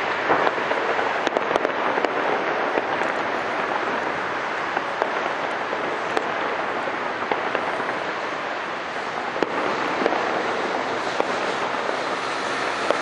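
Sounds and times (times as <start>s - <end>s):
firework bang: 0.0s - 13.0s
fireworks crackling and popping: 0.0s - 13.0s.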